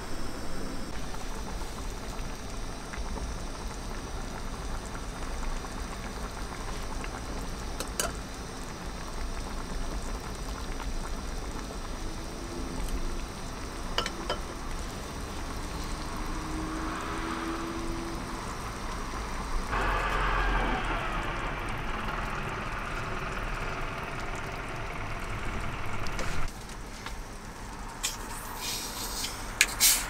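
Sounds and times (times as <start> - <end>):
pot bubbling: 0.4 - 30.0.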